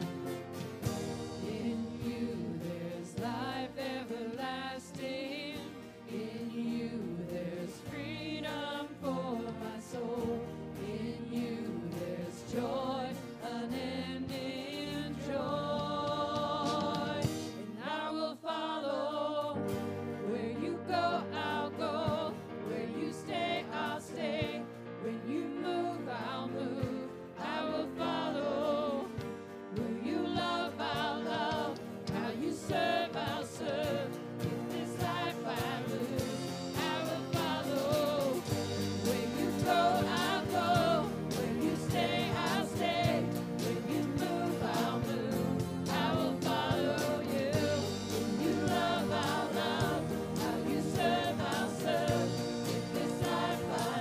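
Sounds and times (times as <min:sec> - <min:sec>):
voices singing together: 0:00.0 - 0:54.0
worship band performing: 0:00.0 - 0:54.0.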